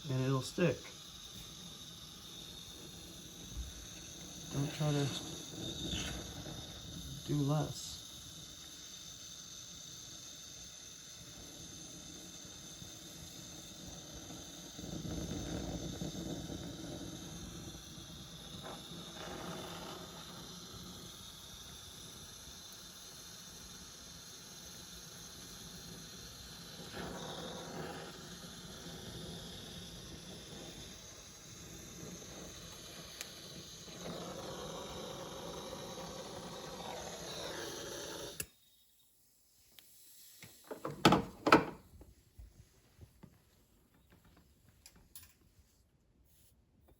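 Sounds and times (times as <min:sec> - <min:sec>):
torch flame hissing: 0:00.0 - 0:38.6, 0:39.4 - 0:44.0
torch click: 0:00.9 - 0:38.6.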